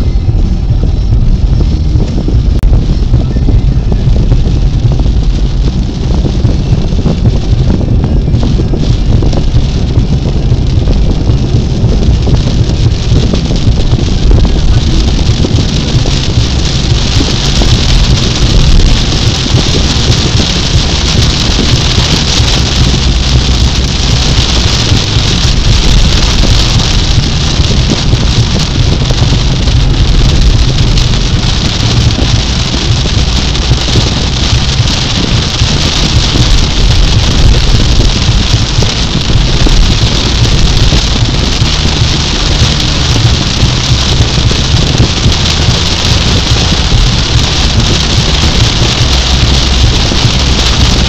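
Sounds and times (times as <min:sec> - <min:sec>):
rain on car windshield and roof: 0:00.0 - 0:51.0
road and engine rumble: 0:00.0 - 0:51.0.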